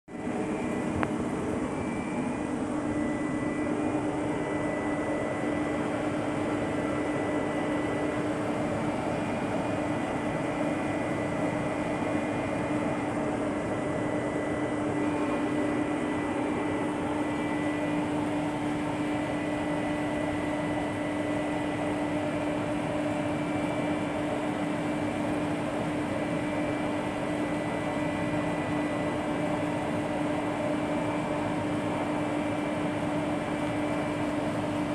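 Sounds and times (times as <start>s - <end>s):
high whine: 0.1s - 28.4s
machine hum: 0.1s - 34.9s.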